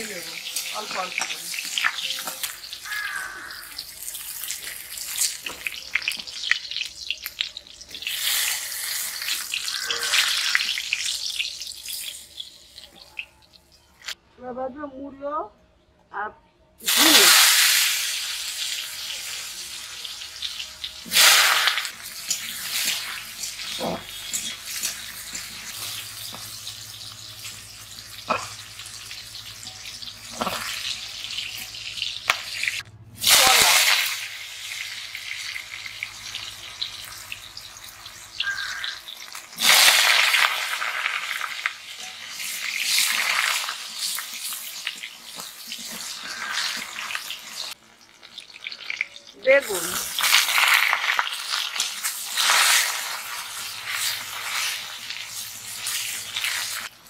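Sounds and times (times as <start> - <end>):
vegetables sizzling in hot oil: 0.0 - 14.2, 16.8 - 57.0.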